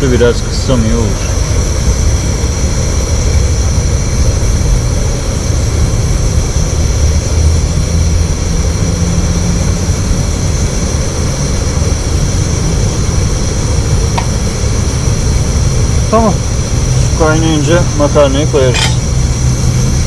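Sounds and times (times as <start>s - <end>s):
camping stove burner roaring: 0.0s - 20.0s.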